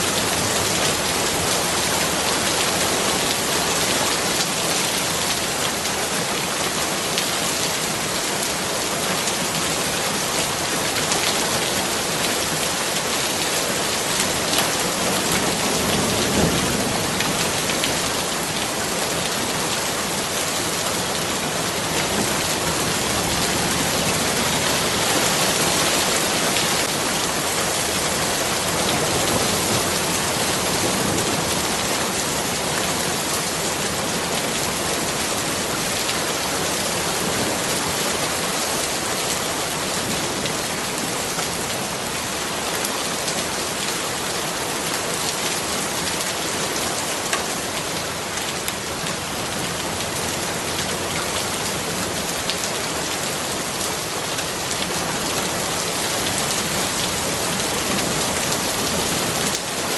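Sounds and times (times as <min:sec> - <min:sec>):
rain hitting a surface: 0:00.0 - 0:59.9.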